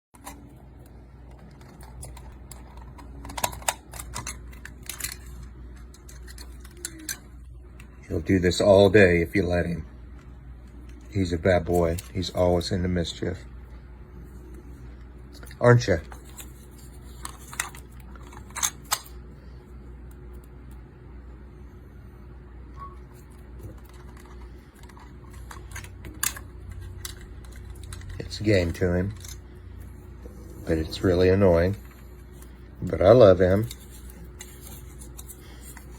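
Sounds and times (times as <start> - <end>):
low hum: 0.2 - 35.9.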